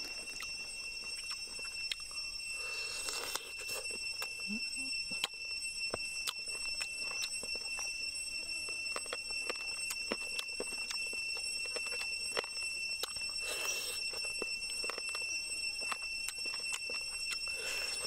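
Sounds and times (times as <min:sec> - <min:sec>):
chewing ribs wet smacks: 0:00.0 - 0:04.4, 0:05.0 - 0:18.0
steady high whine: 0:00.0 - 0:18.0.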